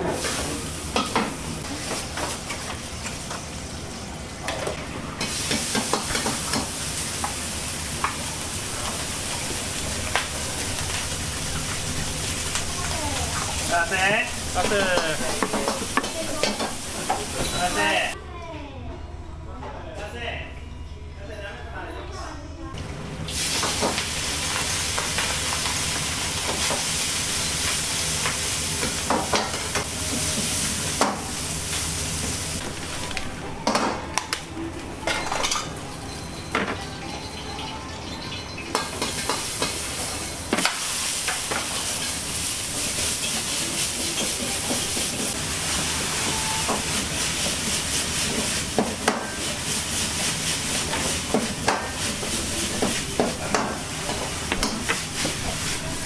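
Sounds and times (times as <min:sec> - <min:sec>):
food sizzling in a wok: 0:00.0 - 0:04.4, 0:05.2 - 0:18.2, 0:23.3 - 0:33.1, 0:37.3 - 0:56.0.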